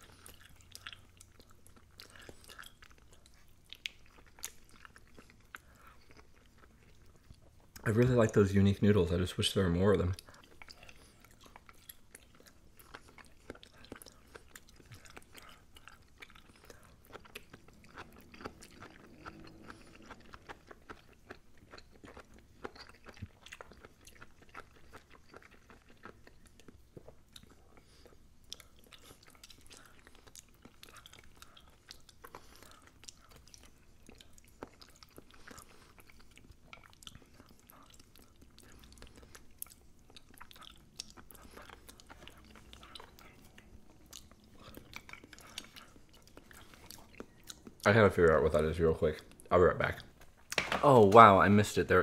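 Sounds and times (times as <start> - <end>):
person chewing: 0.0 - 8.2, 9.1 - 51.3.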